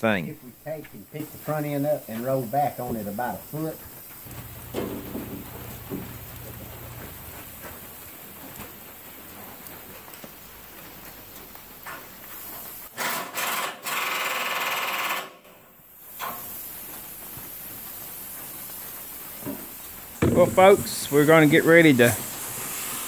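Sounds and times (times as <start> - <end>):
steady background hiss: 0.0 - 13.0, 15.4 - 23.0.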